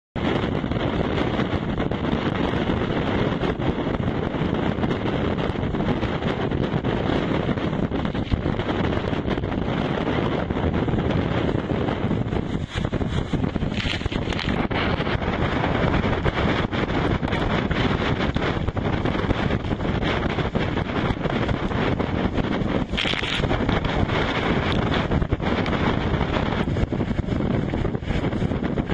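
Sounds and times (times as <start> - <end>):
sea rushing: 0.2 - 28.9
strong wind buffeting microphone: 0.2 - 28.9.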